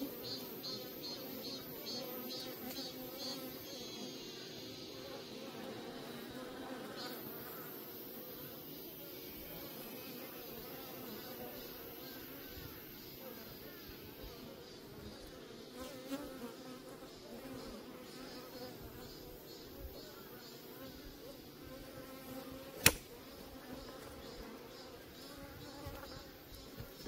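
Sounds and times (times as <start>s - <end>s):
honeybees buzzing: 0.0s - 27.0s.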